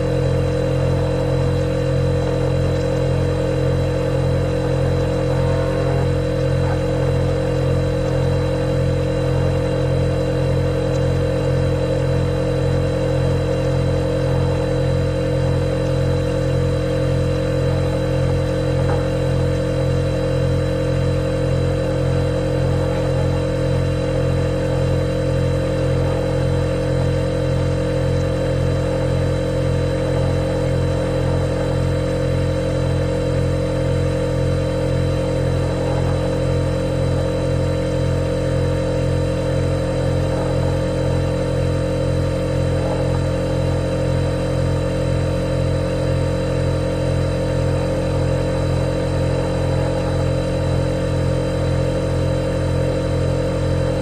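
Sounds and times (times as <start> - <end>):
refrigerator humming: 0.0 - 54.0.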